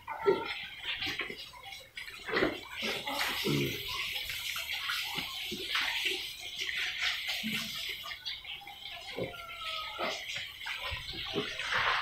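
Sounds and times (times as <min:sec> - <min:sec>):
pigs chomping and snuffling: 0:00.0 - 0:12.0.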